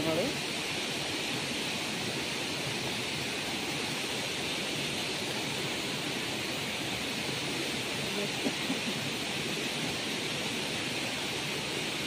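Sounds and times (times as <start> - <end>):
rain falling on water: 0.0 - 12.0
waterfall rushing: 0.0 - 12.0.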